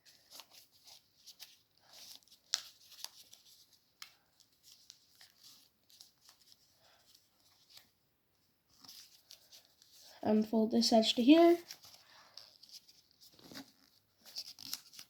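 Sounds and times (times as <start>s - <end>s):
paper rustling and crinkling: 0.0s - 8.0s, 8.7s - 10.2s, 11.6s - 15.0s.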